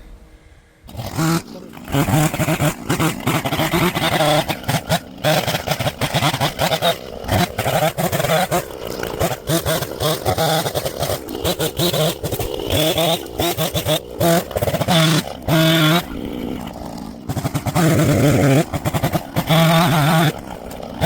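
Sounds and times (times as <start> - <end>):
chainsaw revving: 0.9 - 21.0.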